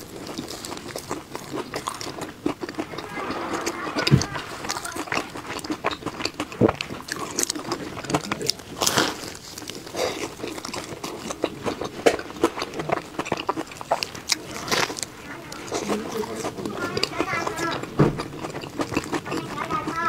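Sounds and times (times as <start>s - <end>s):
crunchy pastry chewing: 0.0s - 20.0s.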